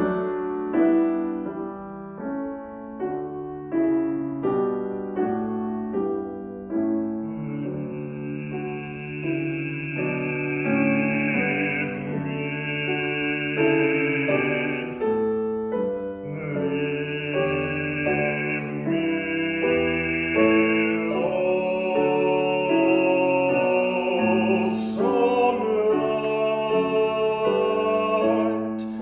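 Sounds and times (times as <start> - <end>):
grand piano accompaniment: 0.0 - 29.0
man singing classical: 3.0 - 29.0.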